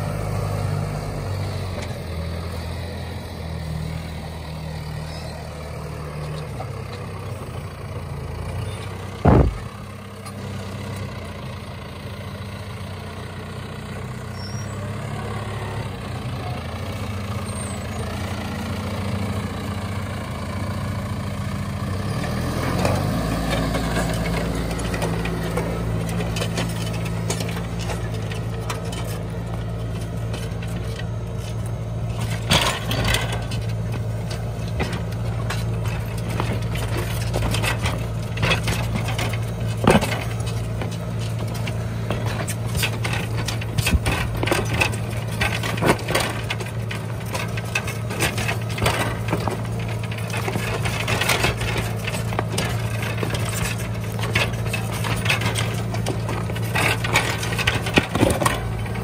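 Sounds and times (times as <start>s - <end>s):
soil crackling and cracking: 0.0s - 11.3s, 14.2s - 59.0s
tractor engine running under load: 0.0s - 59.0s.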